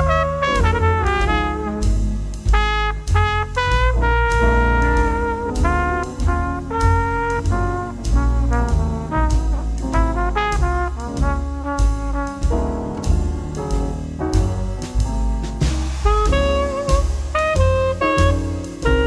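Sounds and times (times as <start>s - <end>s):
jazzy background music: 0.0s - 19.0s.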